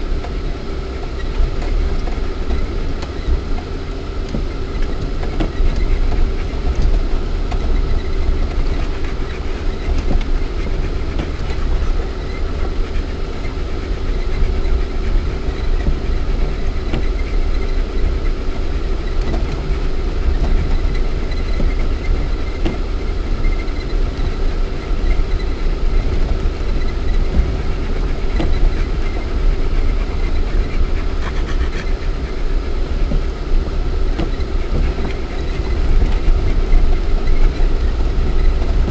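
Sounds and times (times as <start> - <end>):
body and suspension rattling: 0.0 - 38.9
car engine low rumble: 0.0 - 38.9.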